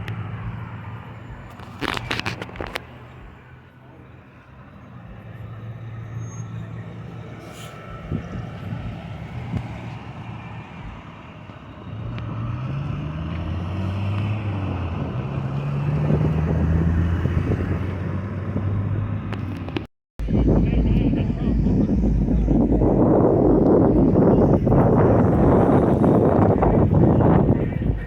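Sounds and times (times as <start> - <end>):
engine accelerating: 0.0 - 28.0
vehicle engines running: 0.0 - 28.0.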